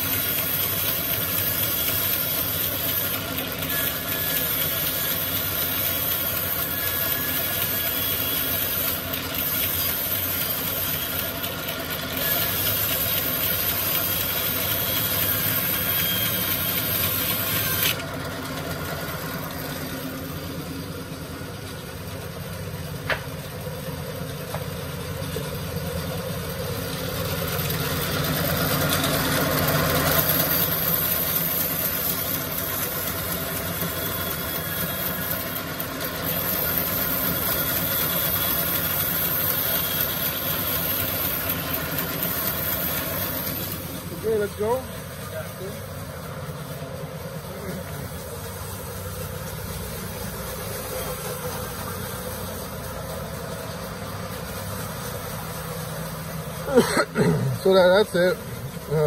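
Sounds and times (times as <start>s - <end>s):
band saw cutting timber: 0.0s - 23.5s, 24.4s - 59.0s.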